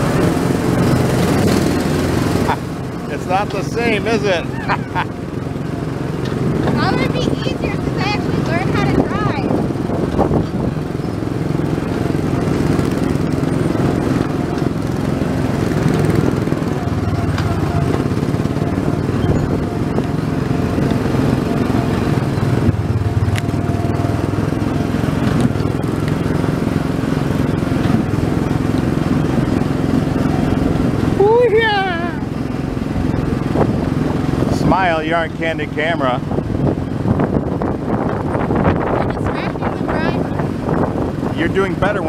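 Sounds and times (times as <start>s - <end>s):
small gasoline engine running: 0.0s - 42.0s.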